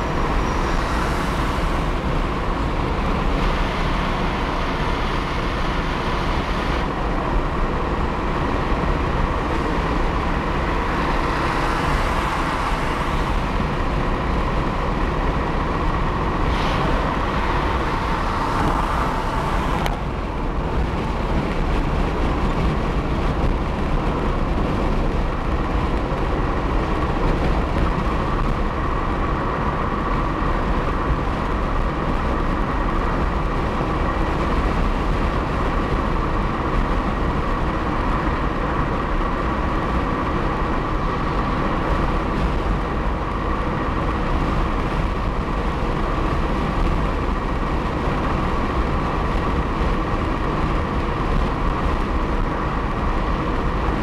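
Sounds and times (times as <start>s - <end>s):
wind hiss: 0.0s - 54.0s.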